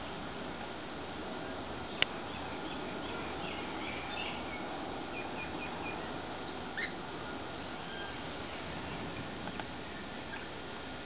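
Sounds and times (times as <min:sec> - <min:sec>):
background hiss: 0:00.0 - 0:11.0
faint bird chirps: 0:01.4 - 0:10.6.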